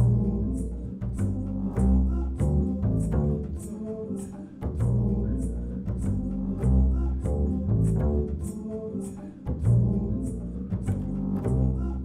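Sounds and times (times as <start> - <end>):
double bass plucked: 0.0 - 12.0.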